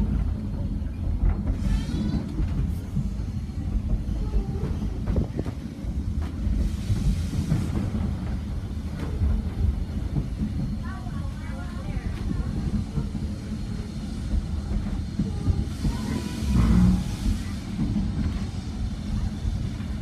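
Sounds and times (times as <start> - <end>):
wheels rumbling on rails: 0.0 - 20.0.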